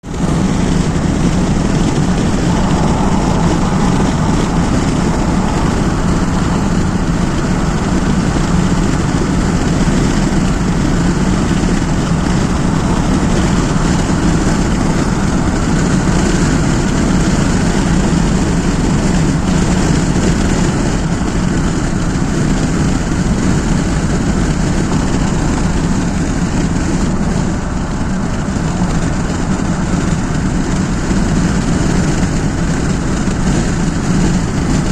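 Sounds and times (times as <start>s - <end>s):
vehicle engine and tyres on wet road: 0.0s - 34.9s.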